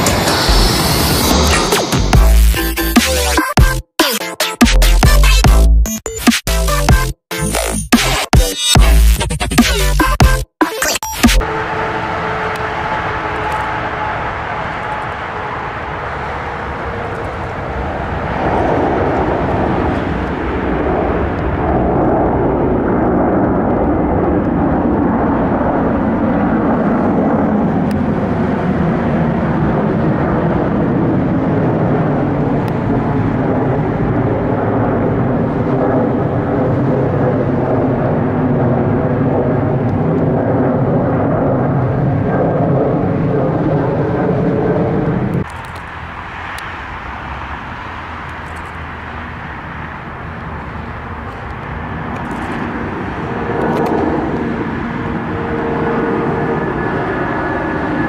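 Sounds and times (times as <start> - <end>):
airplane engine: 0.0 - 5.6, 6.8 - 58.0.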